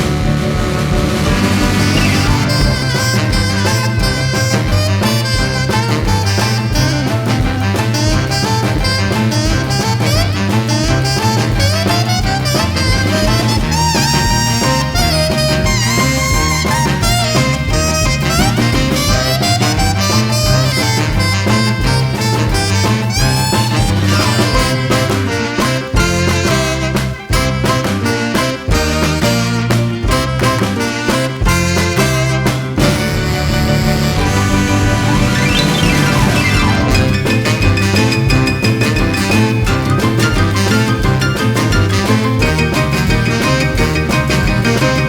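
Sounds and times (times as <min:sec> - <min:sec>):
up-tempo swing music with brass: 0:00.0 - 0:45.0.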